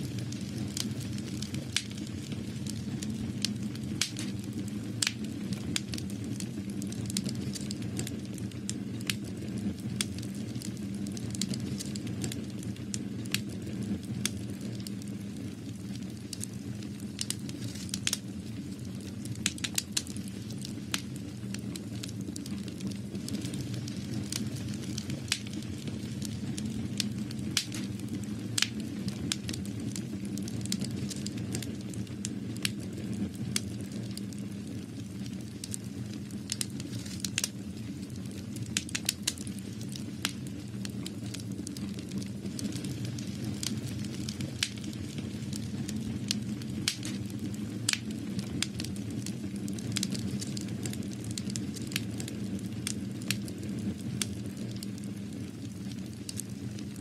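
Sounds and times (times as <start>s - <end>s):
crackling clicks and pops: 0.0s - 57.0s.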